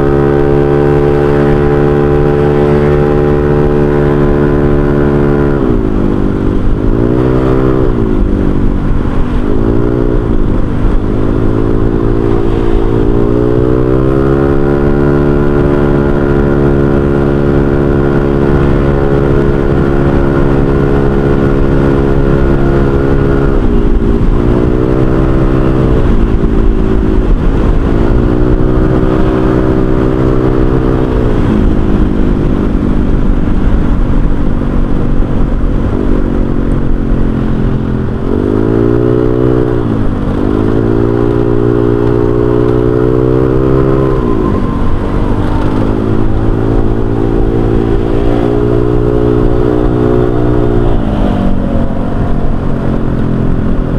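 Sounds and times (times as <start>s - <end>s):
scooter engine accelerating: 0.0s - 53.9s.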